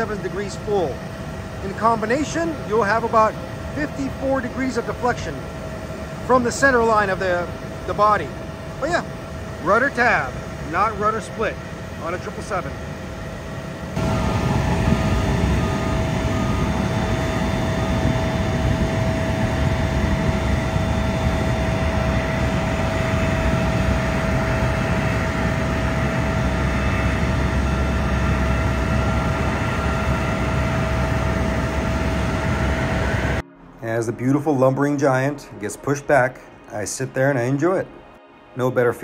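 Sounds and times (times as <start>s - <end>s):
jet turbine rumble and whine: 0.0s - 39.0s.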